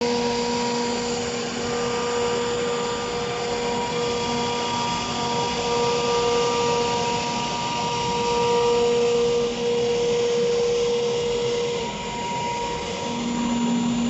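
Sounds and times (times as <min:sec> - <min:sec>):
electric woodworking machine whine: 0:00.0 - 0:14.0.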